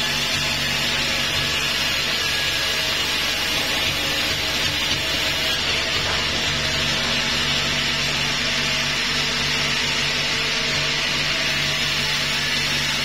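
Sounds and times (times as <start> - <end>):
sawmill motor hum: 0.0 - 13.0.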